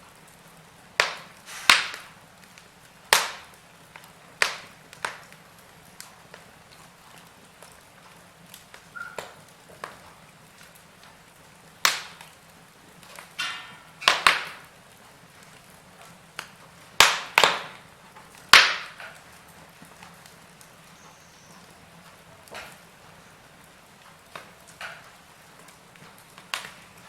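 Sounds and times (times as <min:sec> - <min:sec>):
faint steady hiss: 0:00.0 - 0:27.0
wood fire crackling and popping: 0:00.0 - 0:27.0.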